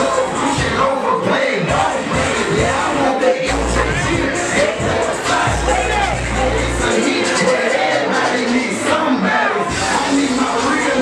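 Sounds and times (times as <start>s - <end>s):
hip hop music with heavy bass: 0.0s - 9.1s
faint crowd: 0.0s - 11.0s.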